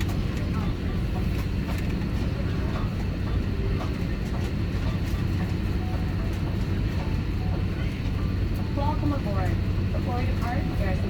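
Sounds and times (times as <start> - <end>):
aircraft cabin rumble and hum: 0.0 - 11.0.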